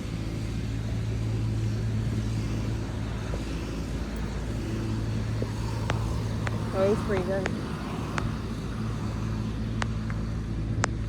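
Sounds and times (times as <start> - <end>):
car engine hum: 0.0 - 11.0
road noise rush: 0.0 - 11.0.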